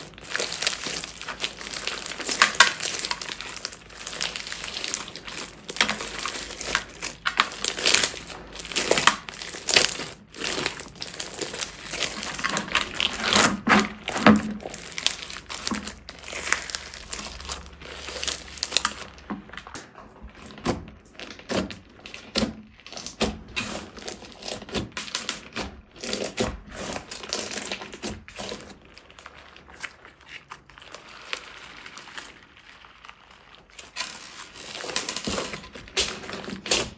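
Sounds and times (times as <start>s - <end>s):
slime crackling and popping: 0.0s - 36.9s.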